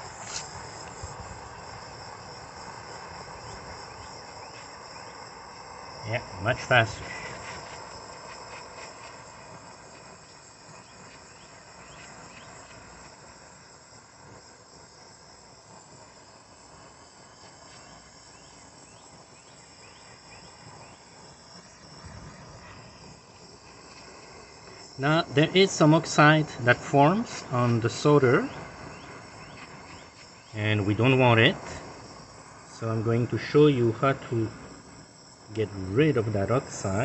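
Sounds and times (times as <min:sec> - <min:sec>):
insects trilling: 0:00.0 - 0:37.0
torch flame hissing: 0:00.0 - 0:37.0.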